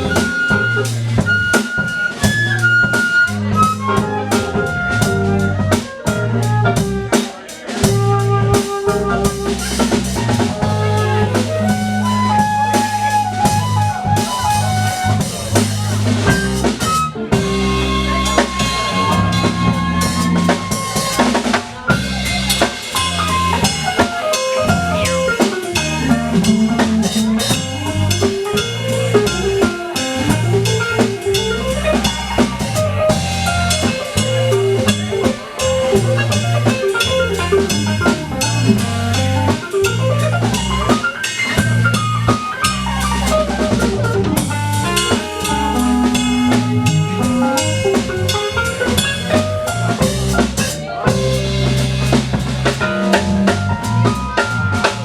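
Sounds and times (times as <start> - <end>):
bass: 0.0 - 55.0
drum kit groove: 0.0 - 55.0.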